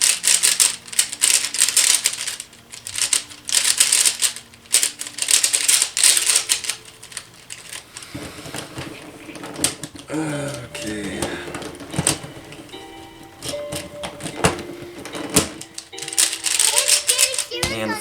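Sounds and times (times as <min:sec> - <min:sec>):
puzzle cube clicking clatter: 0:00.0 - 0:18.0.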